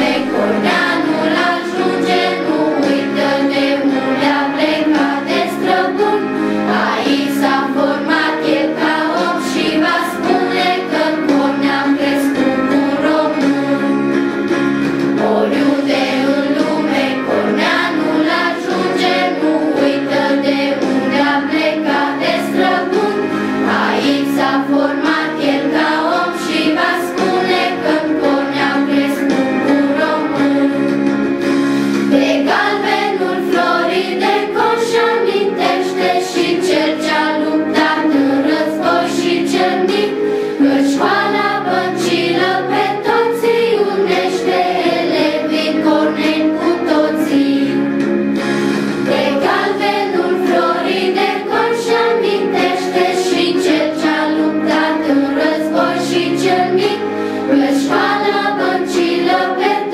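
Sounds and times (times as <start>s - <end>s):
choir singing with instruments: 0.0s - 59.9s.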